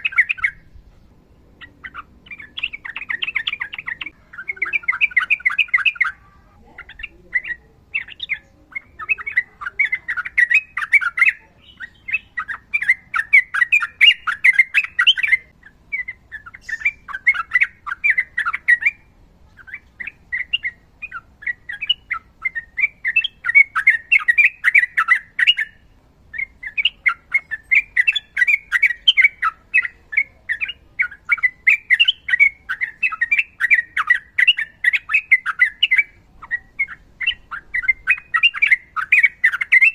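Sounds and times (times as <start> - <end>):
bird singing whistled notes: 0.0 - 0.8, 1.6 - 6.2, 6.9 - 39.9.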